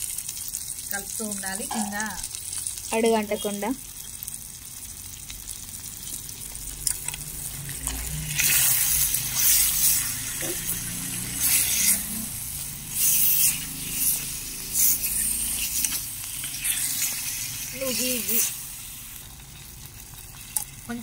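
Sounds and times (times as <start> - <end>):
chicken sizzling in a pot: 0.0 - 21.0.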